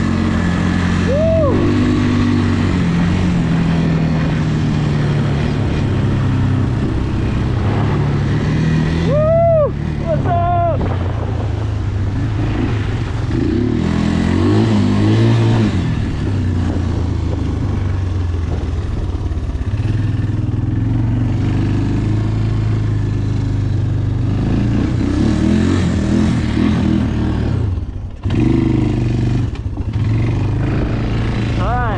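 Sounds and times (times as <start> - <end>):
atv engine revving: 0.0 - 31.9.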